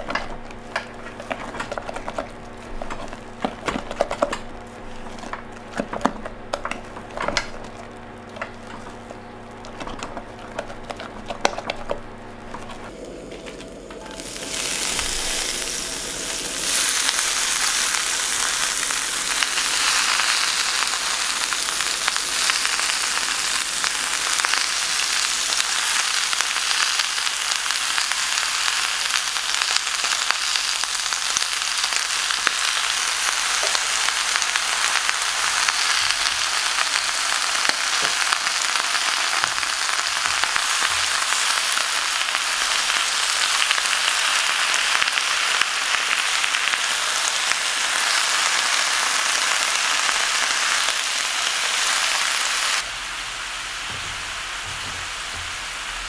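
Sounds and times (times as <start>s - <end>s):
greens sizzling in hot oil: 0.0s - 56.0s.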